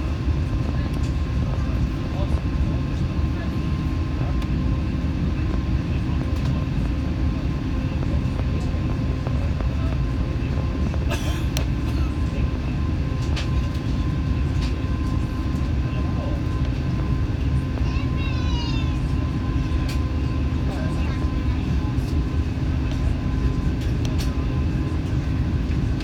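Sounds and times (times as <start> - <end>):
low rumble of jet engines: 0.0 - 26.0.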